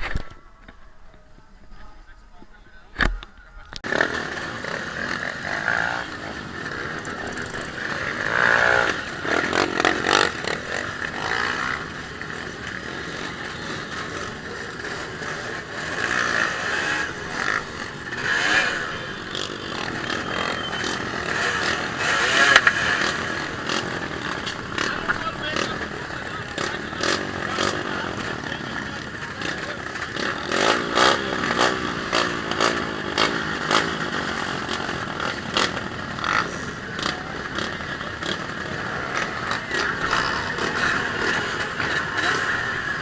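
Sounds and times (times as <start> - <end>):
dirt bike engine revving: 3.8 - 43.0.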